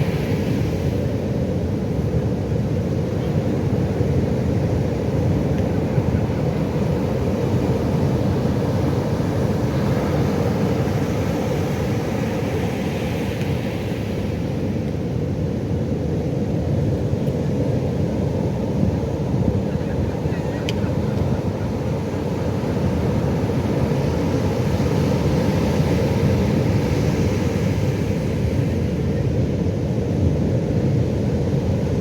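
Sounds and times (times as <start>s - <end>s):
waves breaking on a beach: 0.0s - 32.0s.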